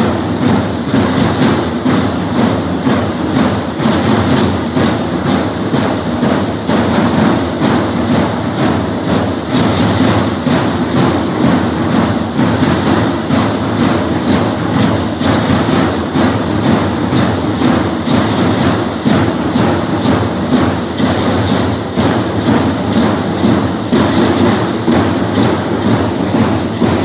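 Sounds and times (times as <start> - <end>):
drum beating quick rhythm: 0.0 - 27.0.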